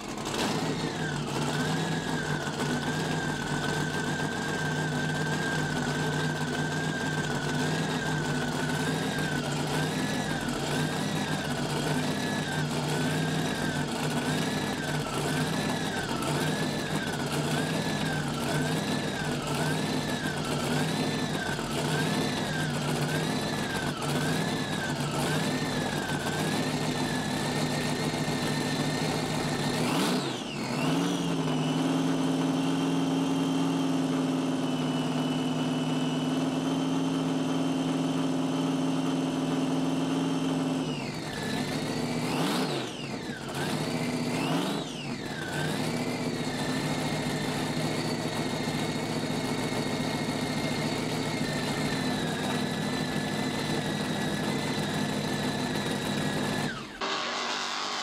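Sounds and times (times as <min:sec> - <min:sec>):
powerboat engine revving and idling: 0:00.0 - 0:56.9.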